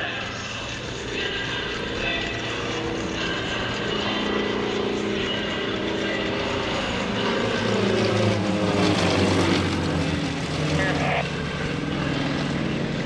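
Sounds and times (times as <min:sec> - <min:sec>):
propeller planes droning past: 0:00.0 - 0:13.0.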